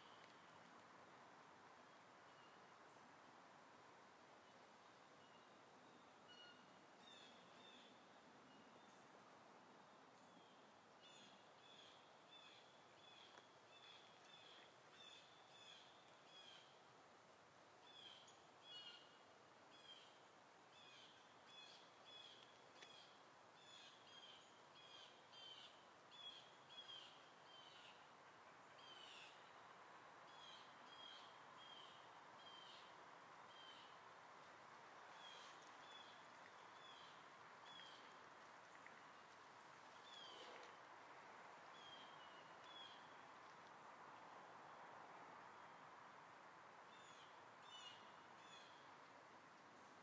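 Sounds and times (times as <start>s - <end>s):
low steady hiss: 0.0s - 50.0s.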